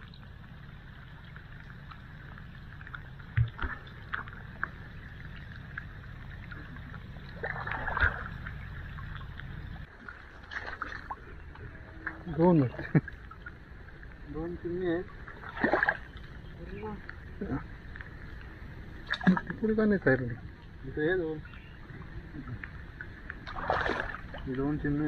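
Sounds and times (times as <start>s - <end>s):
steady low rumble: 0.0s - 25.0s
water splashing and dripping: 0.0s - 25.0s.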